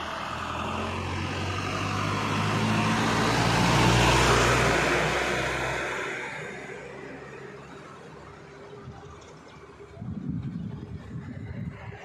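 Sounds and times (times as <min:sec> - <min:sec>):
truck driving past: 0:00.0 - 0:12.0.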